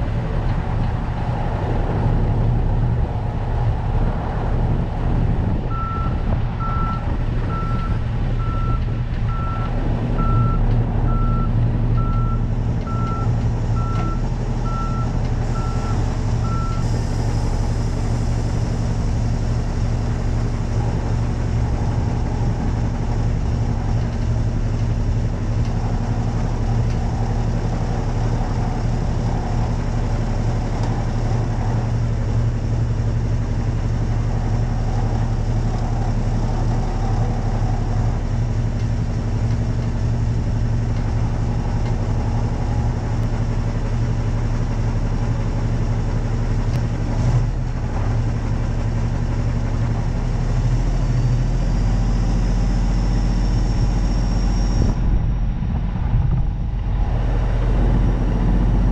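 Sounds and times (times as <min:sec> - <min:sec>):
diesel truck engine running: 0:00.0 - 0:58.9.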